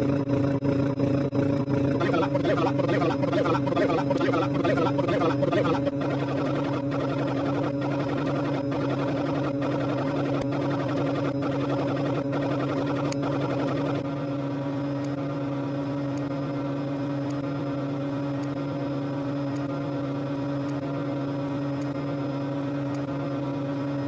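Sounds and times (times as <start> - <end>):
low hum of held tones: 0.0 - 24.0.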